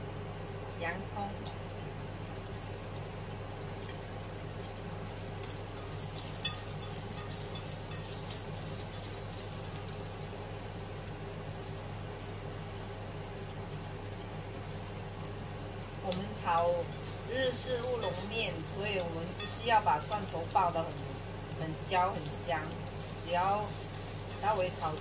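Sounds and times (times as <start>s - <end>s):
low steady hum: 0.0s - 25.0s
onion sizzling in hot oil: 0.0s - 25.0s.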